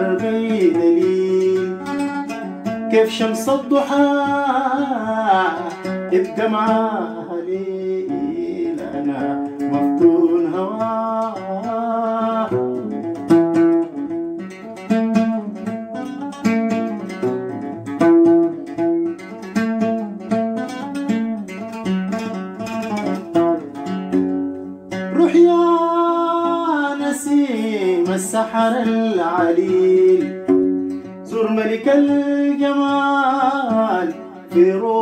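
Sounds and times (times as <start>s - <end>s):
plucked string melody: 0.0s - 35.0s.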